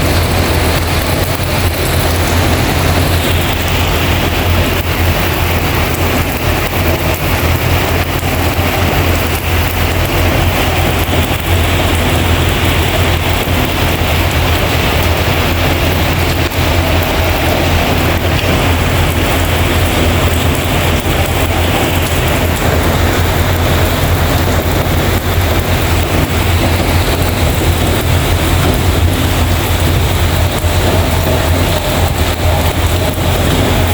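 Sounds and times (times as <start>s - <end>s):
constant low rumble: 0.0s - 33.9s
heavy rain hissing: 0.0s - 33.9s.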